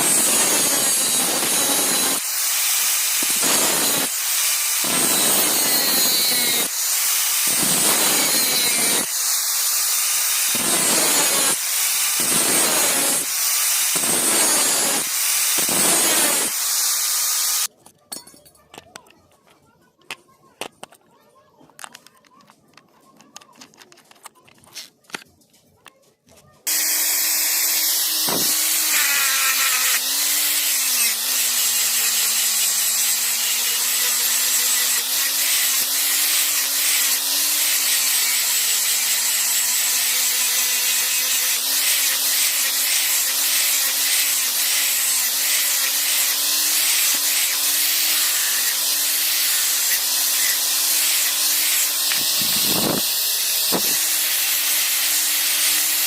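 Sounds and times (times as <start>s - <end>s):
electric grinder on metal: 0.0s - 17.7s, 26.7s - 56.0s.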